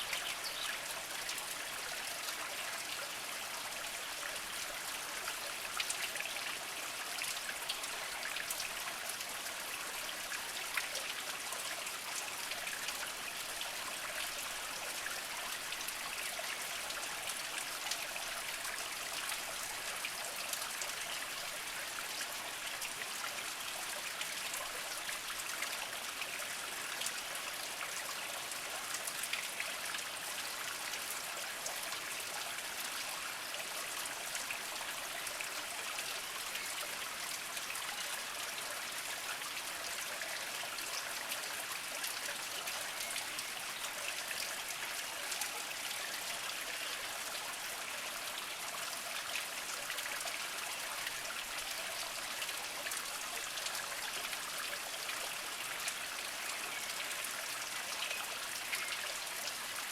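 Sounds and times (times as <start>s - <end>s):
spring water trickling over rocks: 0.0s - 59.9s.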